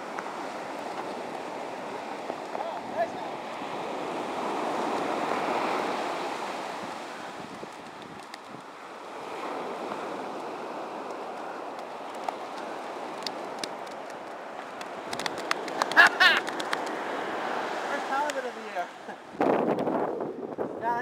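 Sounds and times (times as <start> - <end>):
surf breaking on beach: 0.0 - 20.4.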